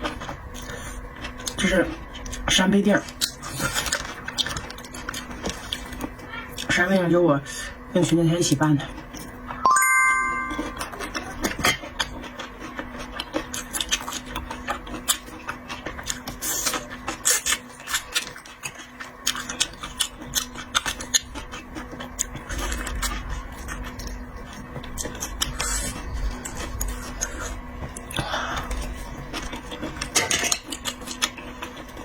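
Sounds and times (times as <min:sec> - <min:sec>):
wet chewing and smacking: 0:00.0 - 0:07.1, 0:08.0 - 0:09.6, 0:10.7 - 0:32.0.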